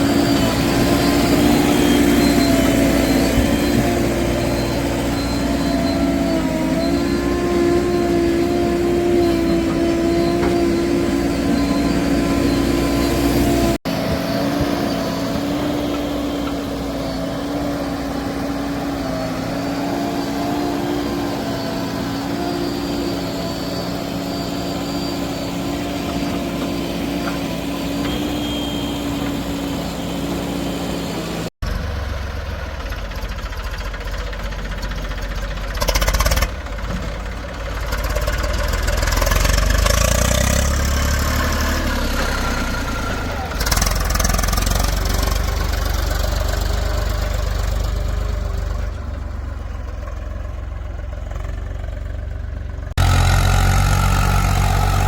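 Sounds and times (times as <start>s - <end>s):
heavy vehicle engine running: 0.0s - 55.0s
lower rougher engine: 0.0s - 55.0s.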